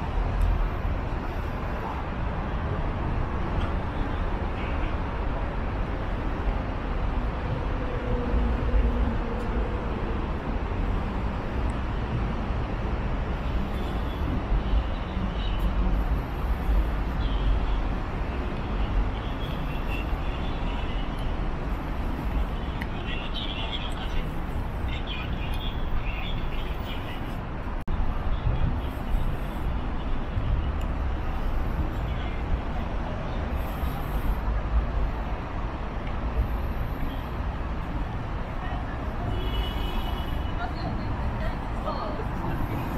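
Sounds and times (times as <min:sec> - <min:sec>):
city traffic rumble: 0:00.0 - 0:42.9.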